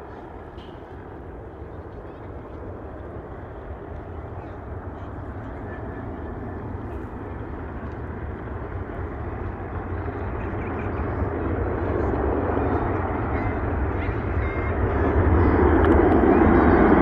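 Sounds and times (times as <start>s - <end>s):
jet aircraft rumble: 0.0s - 17.0s.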